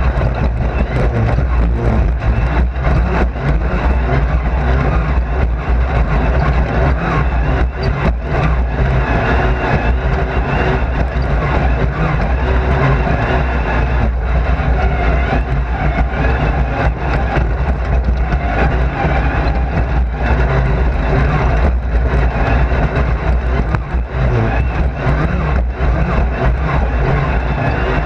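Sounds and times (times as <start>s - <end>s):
racing car engine under load: 0.0s - 28.0s
road and tyre noise: 0.0s - 28.0s.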